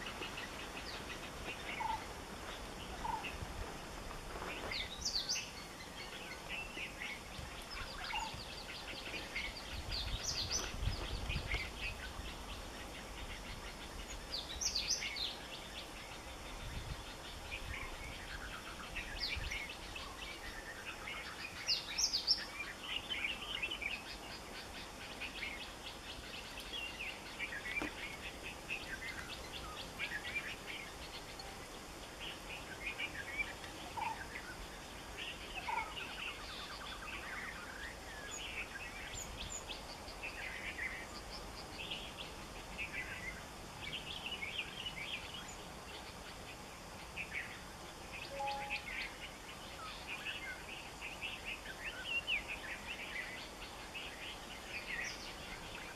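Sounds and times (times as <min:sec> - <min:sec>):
birds chirping: 0:00.0 - 0:55.9
faint steady hiss: 0:00.0 - 0:55.9.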